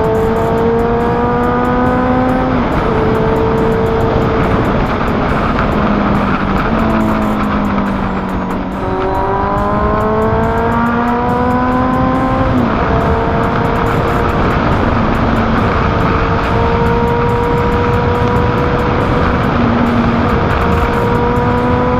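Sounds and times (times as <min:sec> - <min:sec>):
motorcycle engine: 0:00.0 - 0:21.9
wind noise: 0:00.0 - 0:21.9.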